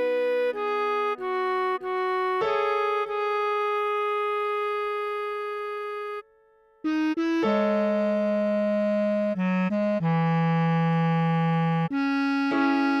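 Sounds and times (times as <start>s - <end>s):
bass clarinet melody: 0.0s - 13.0s
keyboard accompaniment: 0.0s - 13.0s.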